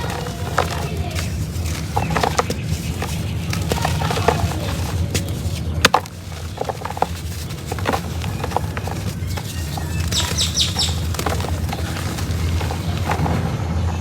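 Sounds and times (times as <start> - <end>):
cement crumbling: 0.0 - 13.5.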